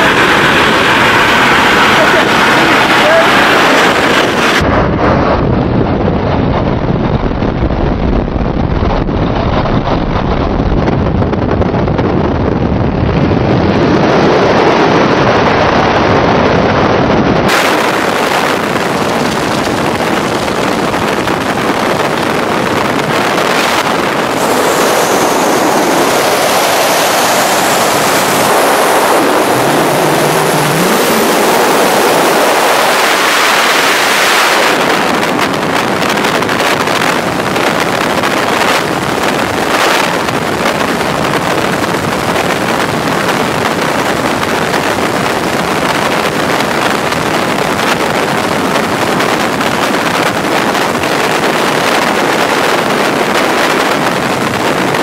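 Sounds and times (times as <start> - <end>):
freefall wind over microphone: 0.0 - 55.0
plane engine roar: 0.0 - 55.0.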